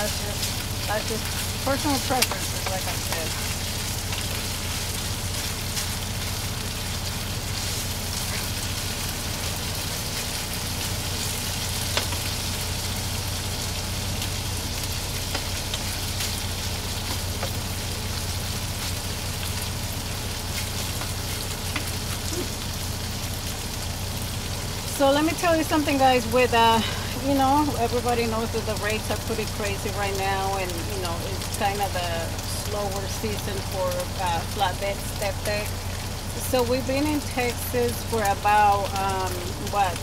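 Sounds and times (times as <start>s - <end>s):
food sizzling in a frying pan: 0.0s - 40.0s.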